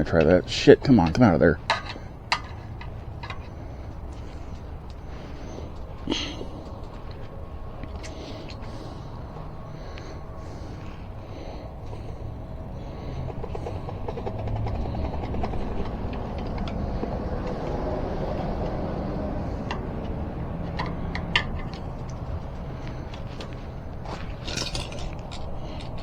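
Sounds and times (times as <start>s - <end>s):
tire levers scraping on rim: 1.6s - 26.0s
low rumble: 2.2s - 26.0s.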